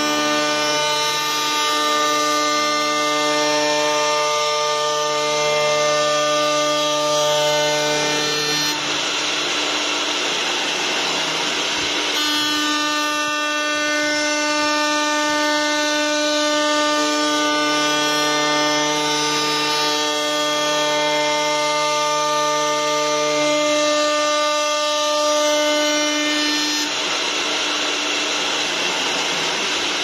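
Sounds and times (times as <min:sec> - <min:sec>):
router spindles whining: 0:00.0 - 0:30.0.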